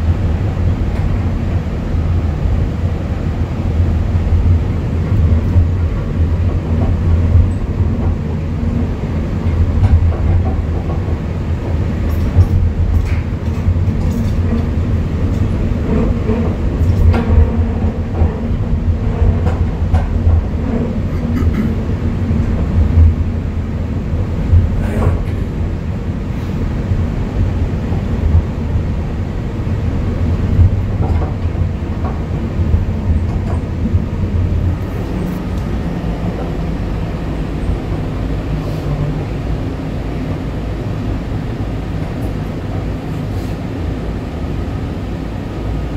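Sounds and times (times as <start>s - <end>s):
train rumbling along track: 0.0s - 45.9s.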